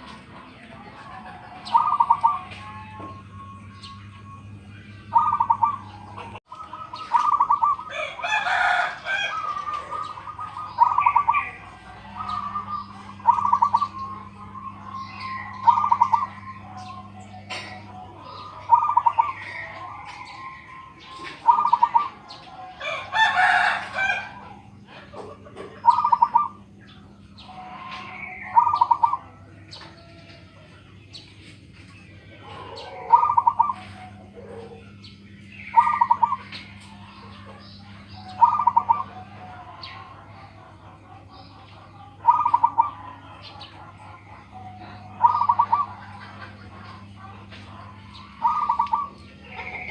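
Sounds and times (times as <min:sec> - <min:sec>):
dove cooing trilled call: 0:00.0 - 0:31.4, 0:32.0 - 0:49.9
faint steady hum: 0:00.0 - 0:49.9
bird harsh call: 0:05.0 - 0:29.4, 0:32.4 - 0:40.2, 0:41.5 - 0:49.9.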